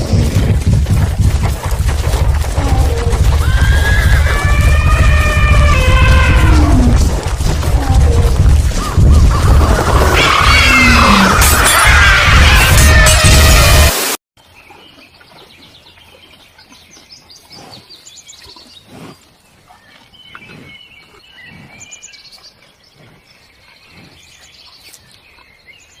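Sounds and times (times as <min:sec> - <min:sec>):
birds chirping: 0:00.0 - 0:13.5, 0:14.4 - 0:26.0.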